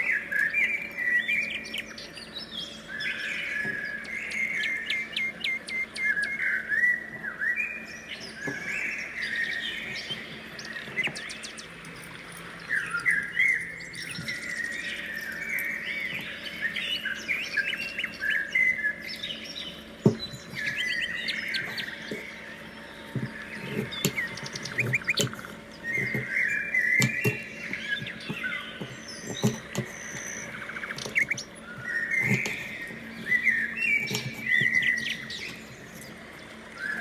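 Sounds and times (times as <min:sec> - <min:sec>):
small birds chirping and singing: 0:00.0 - 0:37.0.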